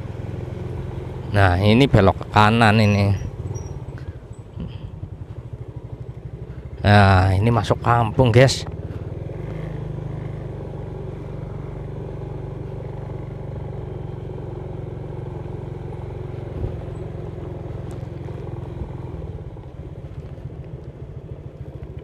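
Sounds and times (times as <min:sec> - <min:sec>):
road vehicle engine running: 0:00.0 - 0:22.0.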